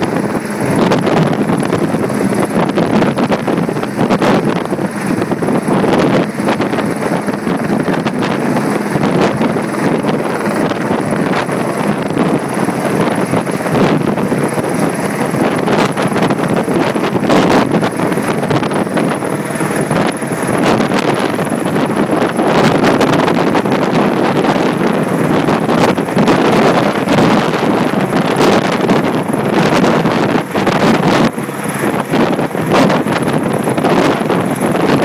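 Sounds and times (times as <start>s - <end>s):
helicopter rotor chopping: 0.0s - 35.0s
wind buffeting microphone: 0.0s - 35.0s.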